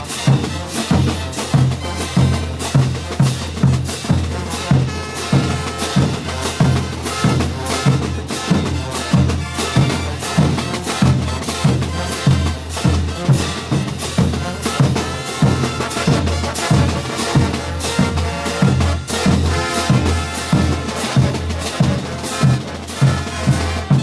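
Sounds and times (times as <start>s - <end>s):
bass drum beat: 0.0s - 24.0s
brass melody: 0.0s - 24.0s
cymbals: 0.0s - 24.0s
snare drum: 0.0s - 24.0s.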